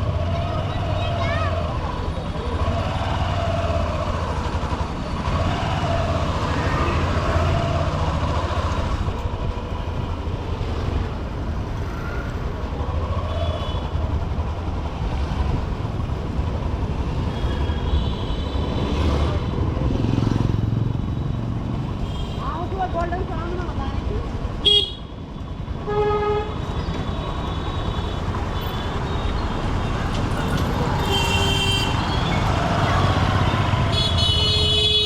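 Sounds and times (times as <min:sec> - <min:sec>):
heavy city traffic: 0:00.0 - 0:35.0.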